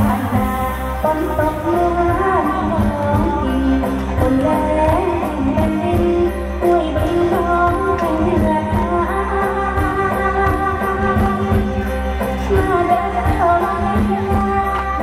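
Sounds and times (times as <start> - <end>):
instrumental accompaniment: 0.0 - 15.0
opera singer: 0.0 - 15.0.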